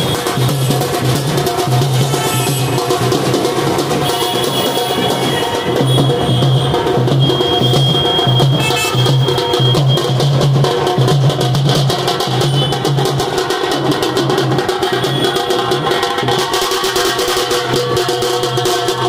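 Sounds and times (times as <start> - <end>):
drums beaten with sticks: 0.0 - 19.0.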